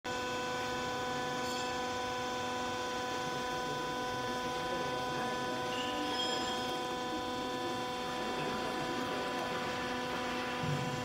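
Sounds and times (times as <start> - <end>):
electric machine hum: 0.1 - 11.0.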